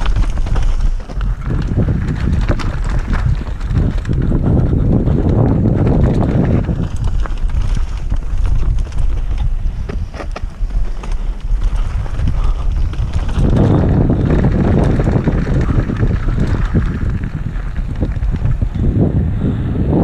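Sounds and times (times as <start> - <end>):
bike rattling over rough trail: 0.0 - 19.7
wind rushing over microphone: 0.0 - 20.0.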